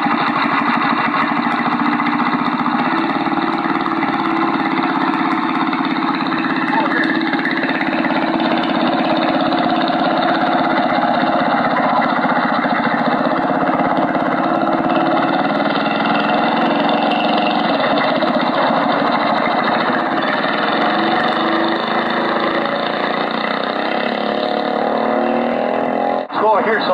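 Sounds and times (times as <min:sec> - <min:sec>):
small engine droning: 0:00.0 - 0:26.9.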